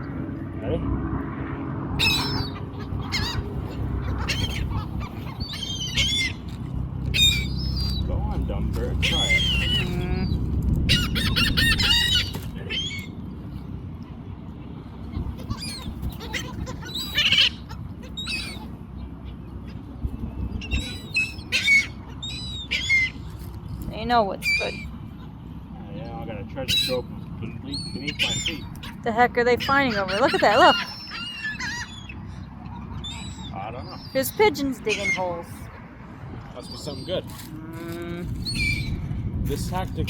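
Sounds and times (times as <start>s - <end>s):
seagulls calling: 2.0s - 40.0s.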